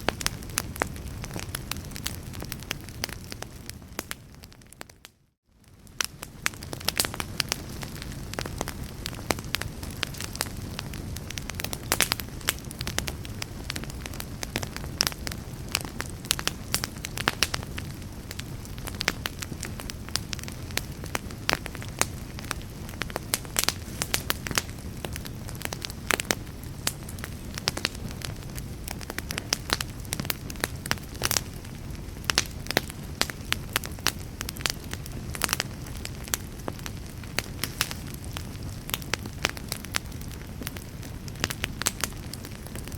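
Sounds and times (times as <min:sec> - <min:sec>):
fire crackling: 0:00.0 - 0:42.9.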